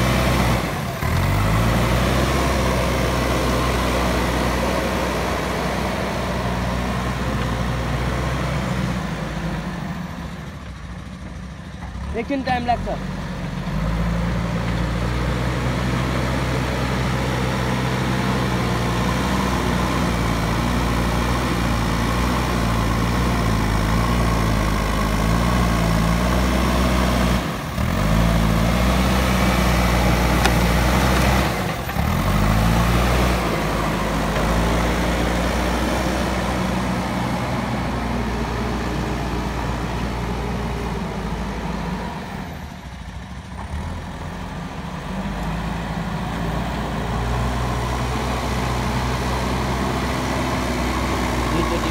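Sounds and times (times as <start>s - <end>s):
diesel engine under load: 0.0s - 51.9s.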